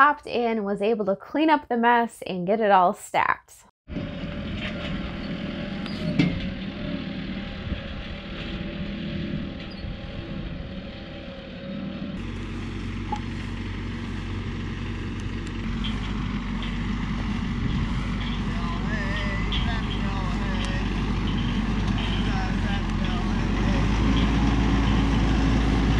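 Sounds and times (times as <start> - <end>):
deep rumble of tractors pulling balers: 3.9 - 25.9
tractor engines running: 3.9 - 25.9.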